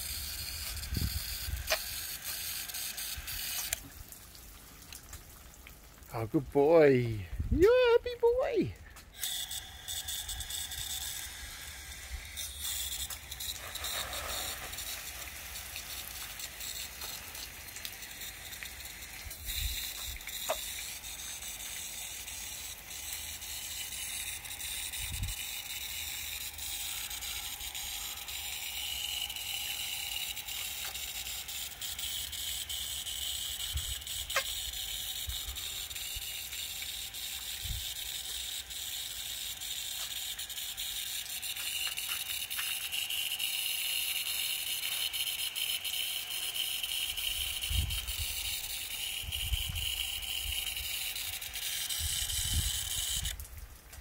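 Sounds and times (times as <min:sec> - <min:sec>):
water spray hissing on leaves: 0:00.0 - 0:54.0.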